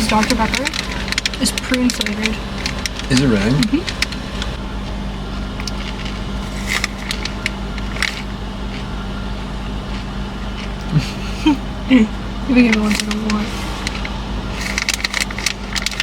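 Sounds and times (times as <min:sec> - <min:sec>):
car cabin rumble and hum: 0:00.0 - 0:16.0.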